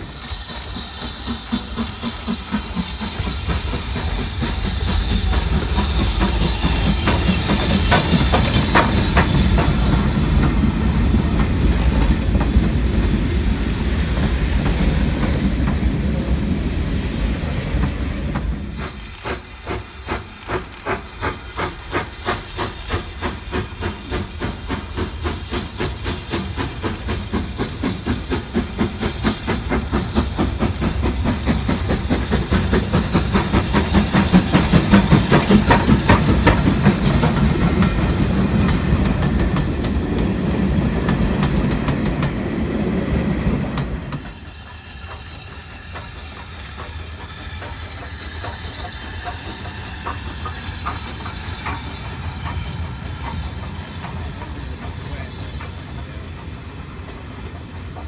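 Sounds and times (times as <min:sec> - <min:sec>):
steam locomotive chuffing: 0:00.0 - 0:58.0
train wheels rolling: 0:00.0 - 0:58.0.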